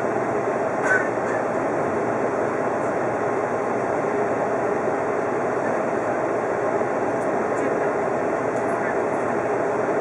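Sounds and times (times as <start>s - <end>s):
train running noise: 0.0s - 10.0s.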